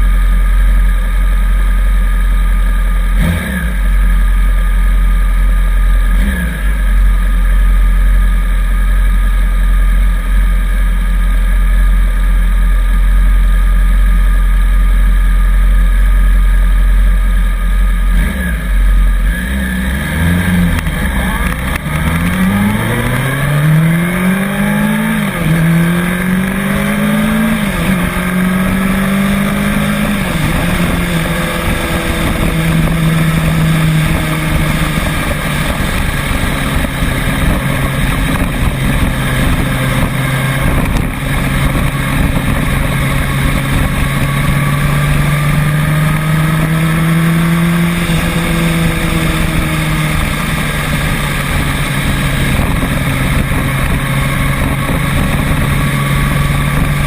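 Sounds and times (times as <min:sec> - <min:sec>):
road and wind noise: 0:00.0 - 0:57.0
vehicle engine accelerating: 0:00.0 - 0:57.0.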